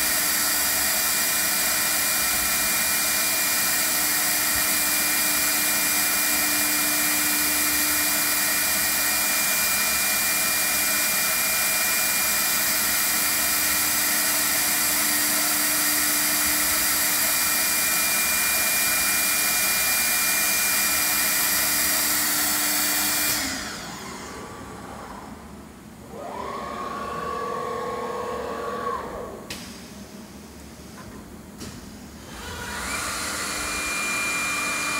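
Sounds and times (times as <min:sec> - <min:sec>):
woodworking machine with high whine: 0:00.0 - 0:29.5, 0:32.2 - 0:34.9.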